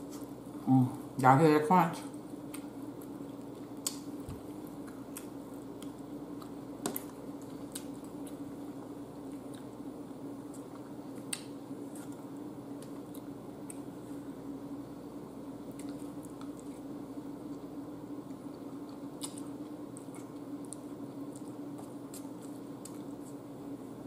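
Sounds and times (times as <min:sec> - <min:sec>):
steady low hum: 0:00.0 - 0:24.0
chewing crispy chicken wing: 0:02.2 - 0:14.2, 0:15.5 - 0:24.0.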